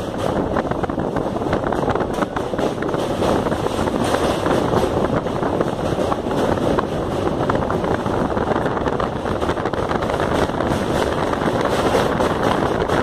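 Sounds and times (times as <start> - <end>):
train wheels rumbling on track: 0.0 - 13.0
wind buffeting microphone: 0.0 - 13.0.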